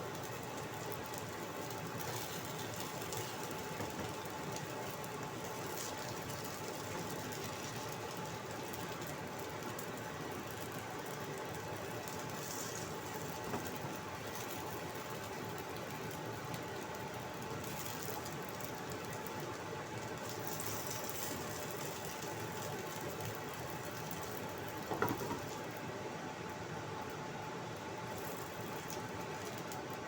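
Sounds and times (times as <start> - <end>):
oil sizzling in a wok: 0.0 - 30.0.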